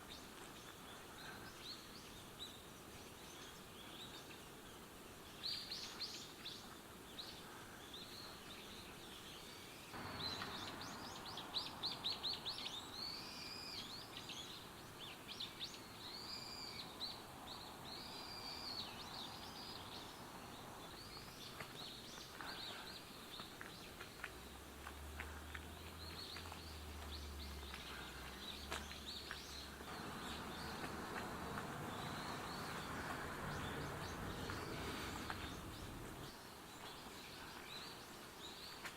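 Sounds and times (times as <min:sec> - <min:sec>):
background hiss: 0:00.0 - 0:38.9
songbirds singing: 0:00.0 - 0:38.9.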